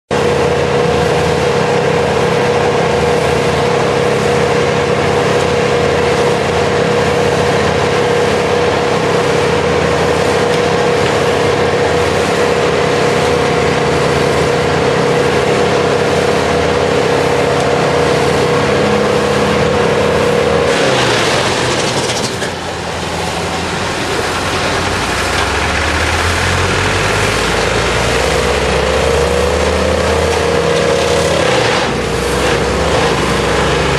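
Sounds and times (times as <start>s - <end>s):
wood chipper grinding tree: 0.1s - 33.9s
wood chipper whining: 0.1s - 33.9s.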